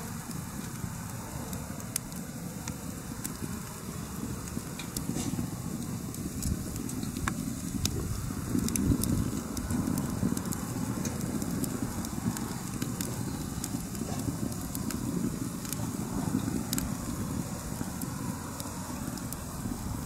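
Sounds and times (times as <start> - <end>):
fire low rumble: 0.0 - 20.0
firewood crackling and popping: 0.0 - 20.0.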